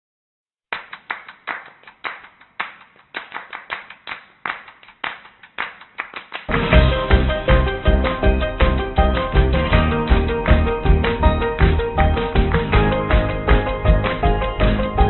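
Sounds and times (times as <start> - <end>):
hand claps in syncopated rhythm: 0.7 - 15.0.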